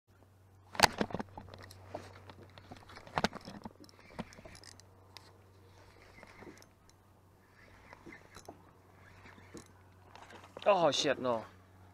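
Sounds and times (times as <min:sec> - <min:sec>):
faint steady hum: 0:00.1 - 0:11.9
fishing rod and reel clicking: 0:00.7 - 0:10.8.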